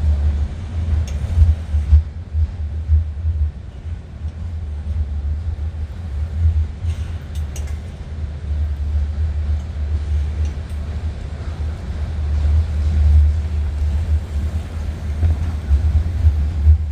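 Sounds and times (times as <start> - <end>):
train rumbling past: 0.0 - 16.9.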